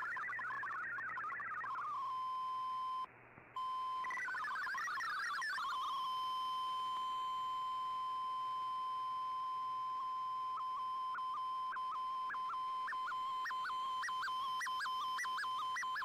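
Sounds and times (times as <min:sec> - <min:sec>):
steady high data tone: 0:00.0 - 0:16.0.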